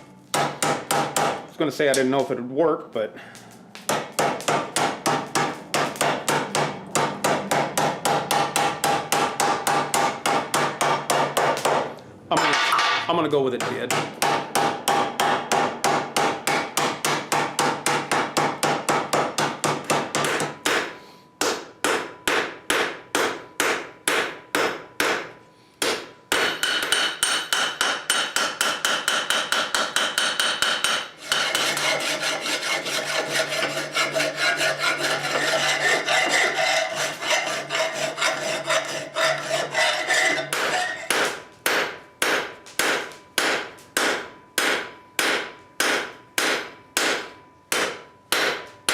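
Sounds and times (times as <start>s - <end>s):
hammer striking steel on anvil: 3.9s - 48.9s.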